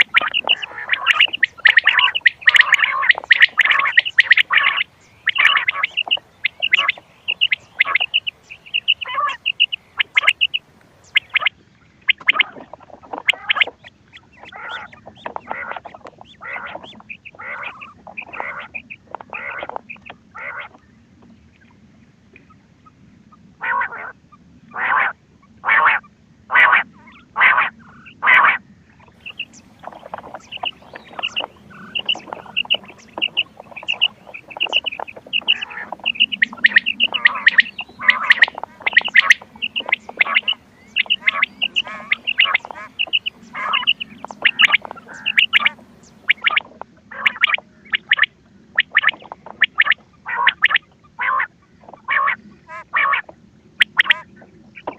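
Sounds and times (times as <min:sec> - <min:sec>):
quail calls: 0:00.0 - 0:11.5, 0:12.1 - 0:20.8, 0:23.6 - 0:28.6, 0:29.2 - 0:54.9
many birds chirping: 0:00.0 - 0:20.8, 0:26.7 - 0:52.8.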